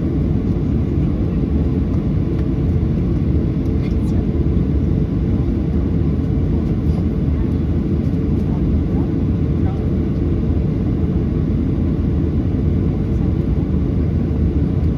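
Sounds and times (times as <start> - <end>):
airliner cabin engine rumble: 0.0 - 14.9.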